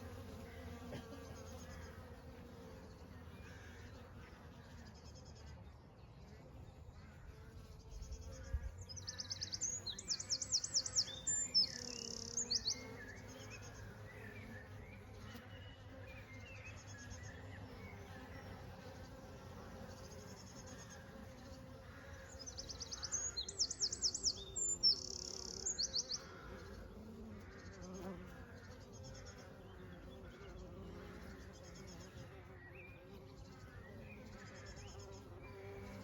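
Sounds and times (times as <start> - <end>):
bees buzzing: 0.0 - 4.8, 6.8 - 36.0.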